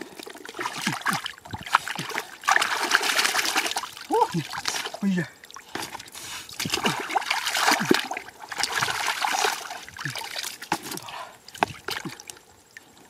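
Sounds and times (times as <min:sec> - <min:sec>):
muddy water splashing and trickling: 0:00.0 - 0:13.0
wet squelches in shallow mud: 0:00.0 - 0:13.0.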